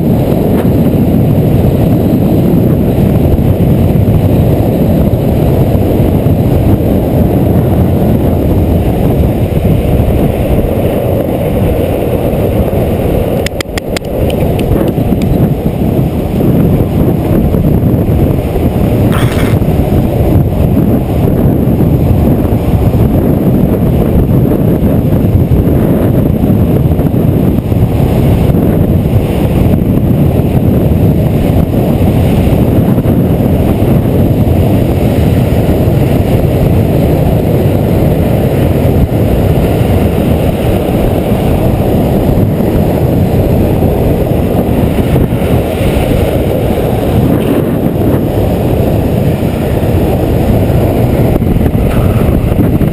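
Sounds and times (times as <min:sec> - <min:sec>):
skateboard wheels rolling on asphalt: 0:00.0 - 0:52.9
wind rush on microphone: 0:00.0 - 0:52.9.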